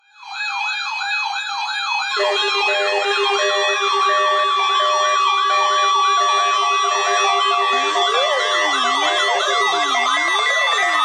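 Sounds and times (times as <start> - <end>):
electronic siren yelping: 0.5 - 11.0
low pulsing alarm tones: 2.2 - 11.0.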